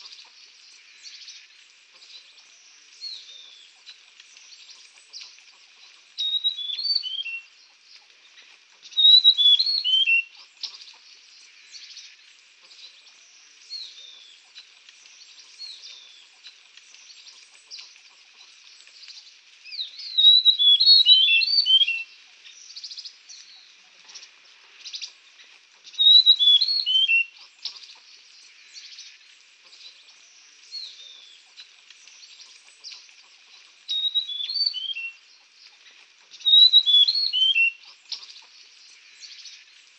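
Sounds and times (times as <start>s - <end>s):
soft bird chirps: 0.0s - 39.9s
songbird singing: 0.0s - 39.9s.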